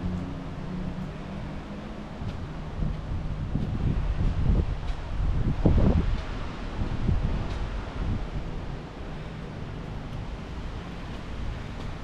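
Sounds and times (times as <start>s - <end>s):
outdoor rushing noise: 0.0s - 12.0s
wind buffeting microphone: 0.0s - 12.0s.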